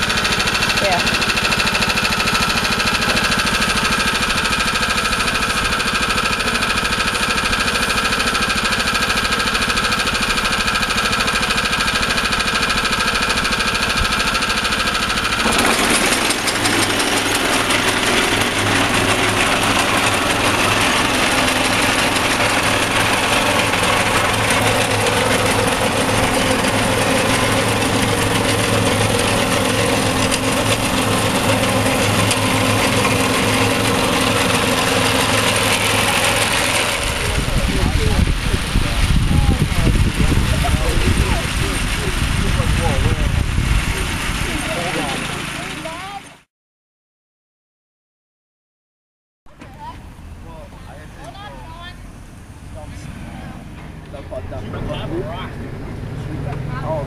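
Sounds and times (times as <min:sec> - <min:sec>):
cranberry picker engine running: 0:00.0 - 0:46.5, 0:49.5 - 0:57.0.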